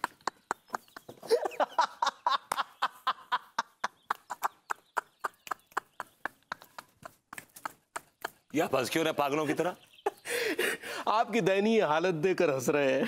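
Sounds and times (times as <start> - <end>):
man laughing: 0.0 - 11.2.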